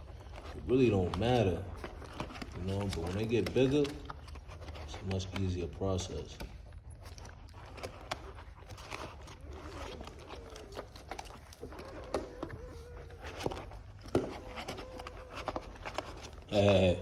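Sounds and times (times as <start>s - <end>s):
puppies suckling clicks: 0.0s - 17.0s
puppies whimpering and squeaking: 0.0s - 17.0s.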